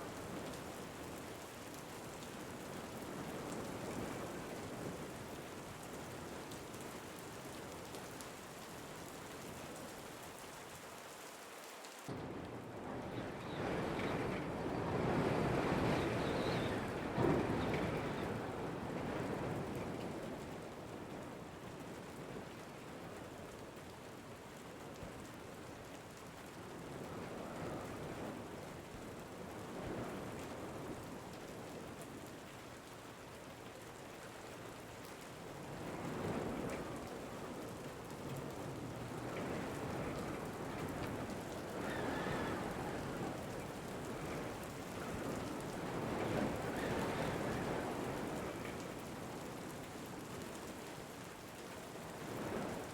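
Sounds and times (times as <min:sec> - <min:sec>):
rain falling: 0:00.0 - 0:52.9
wind: 0:00.0 - 0:52.9.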